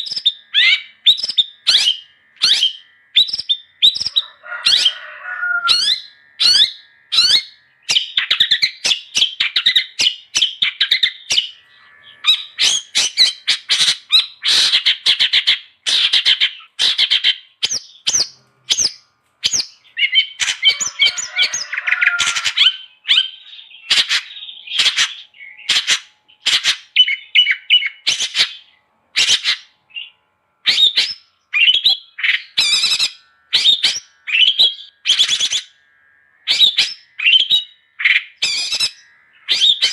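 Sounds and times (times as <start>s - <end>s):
bird chattering and chirping: 0.0s - 35.8s, 36.5s - 39.9s.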